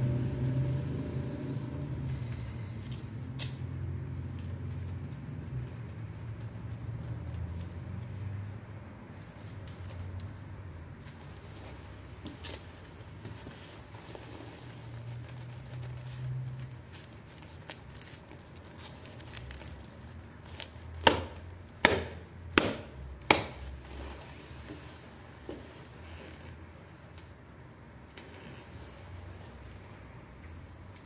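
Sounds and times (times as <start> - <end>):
leather gloves rustling and creaking: 2.1 - 31.0.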